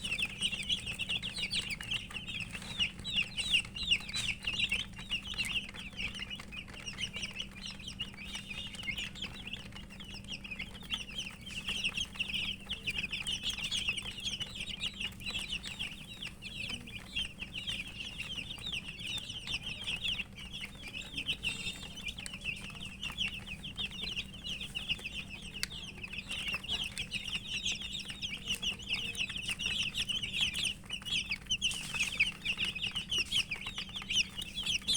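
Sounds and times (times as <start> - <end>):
chicks chirping: 0.0 - 34.9
faint low hum: 0.0 - 34.9.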